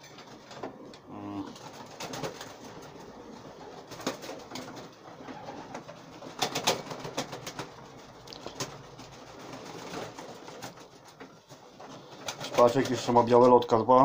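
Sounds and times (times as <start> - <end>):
pigeons cooing: 0.0 - 12.9
wings flapping: 0.0 - 13.5.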